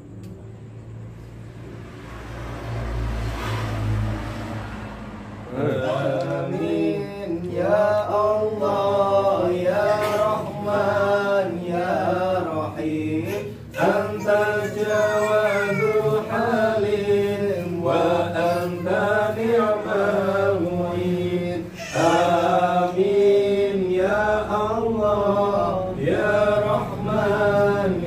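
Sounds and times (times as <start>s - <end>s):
men chanting a prayer: 5.4s - 28.0s.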